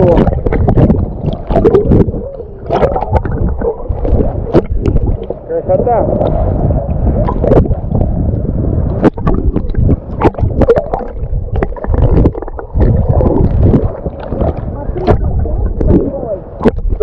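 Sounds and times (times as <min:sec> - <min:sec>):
waves breaking and splashing: 0:00.0 - 0:17.0.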